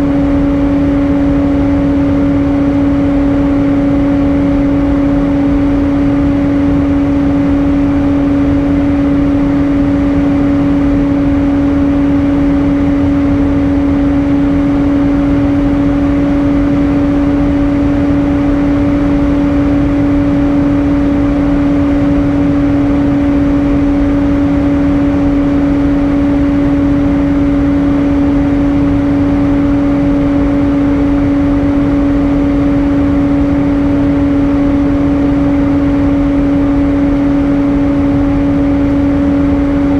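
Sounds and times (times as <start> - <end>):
airplane cabin engine rush: 0.0 - 39.9
droning hum tone: 0.0 - 39.9.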